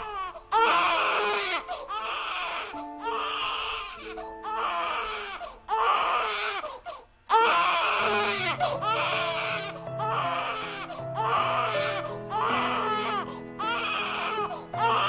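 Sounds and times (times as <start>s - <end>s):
soft background music: 0.0s - 6.6s, 7.3s - 15.0s
baby crying: 0.0s - 15.0s.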